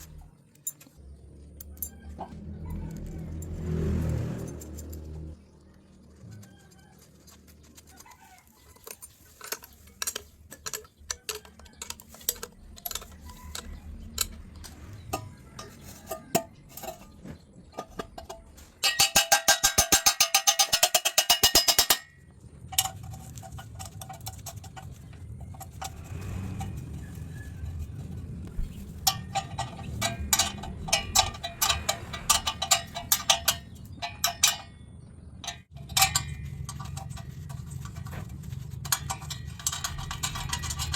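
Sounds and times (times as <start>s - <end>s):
tools clinking on metal: 0.0s - 2.4s, 8.0s - 40.9s
rapid metal strokes: 7.3s - 34.8s, 35.4s - 40.9s.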